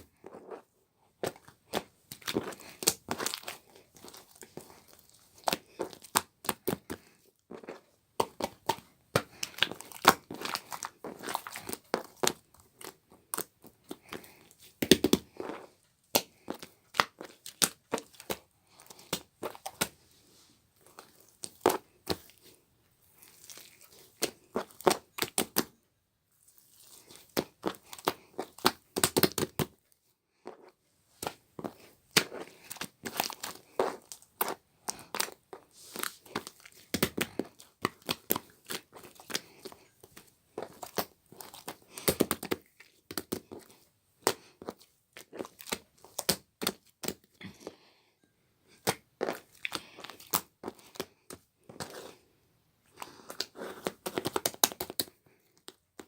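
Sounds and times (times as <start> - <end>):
crinkling handling noise: 0.0 - 25.7, 26.3 - 47.9, 48.7 - 56.0.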